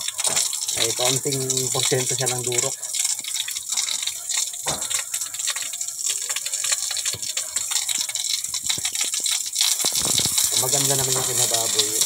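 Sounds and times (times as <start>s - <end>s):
water hissing and splashing: 0.0s - 12.0s.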